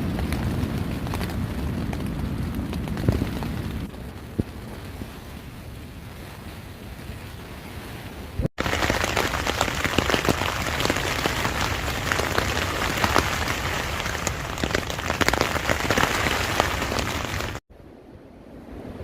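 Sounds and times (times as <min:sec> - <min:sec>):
rain drops striking close: 0:00.0 - 0:06.2, 0:08.6 - 0:17.6
steady rain: 0:00.0 - 0:18.0.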